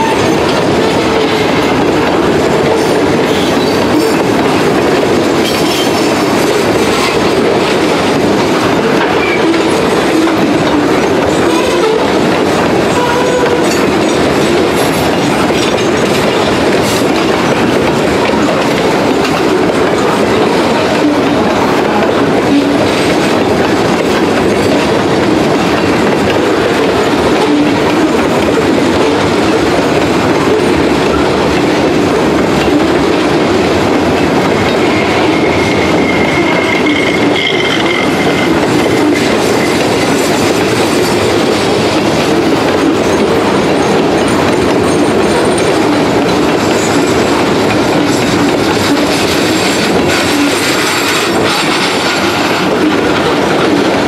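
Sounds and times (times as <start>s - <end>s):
clicks of train wheels: 0.0s - 54.0s
freight train wheels rumbling on rail: 0.0s - 54.0s.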